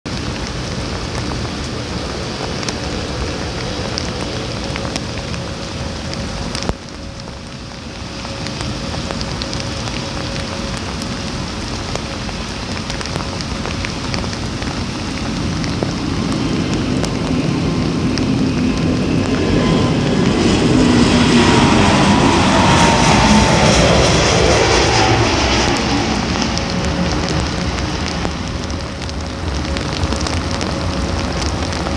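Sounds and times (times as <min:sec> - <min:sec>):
raindrop ticks: 0:00.1 - 0:21.4, 0:24.5 - 0:31.9
jet engines on takeoff roll: 0:00.1 - 0:31.9
steady rain hiss: 0:00.1 - 0:31.9.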